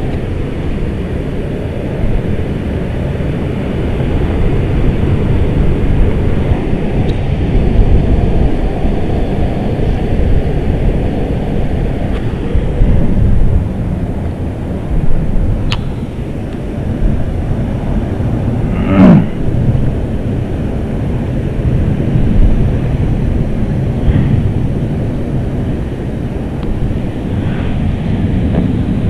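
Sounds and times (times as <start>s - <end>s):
choppy surf: 0.0s - 29.0s
wind buffeting the microphone: 0.0s - 29.0s.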